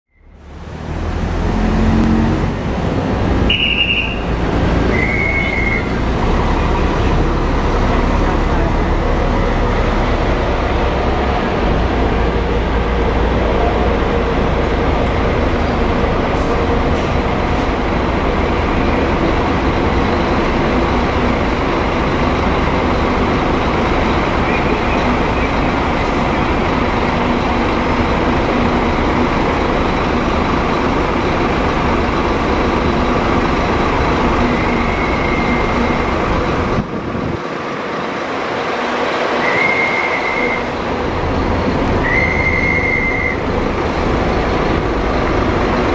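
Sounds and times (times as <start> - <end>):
diesel coach engine idling: 0.1 - 45.9.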